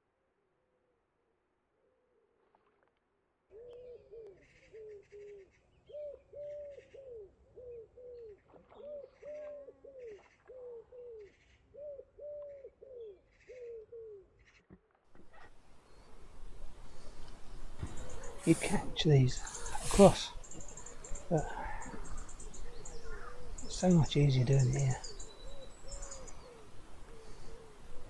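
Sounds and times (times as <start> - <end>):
wood pigeon cooing: 3.5 - 14.4, 15.2 - 28.0.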